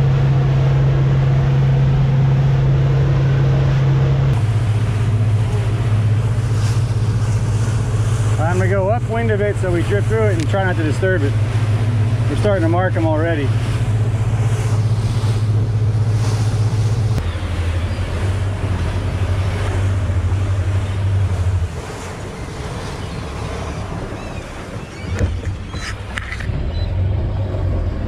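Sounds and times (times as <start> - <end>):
motorboat engine drone: 0.0 - 28.0
wind: 0.0 - 28.0.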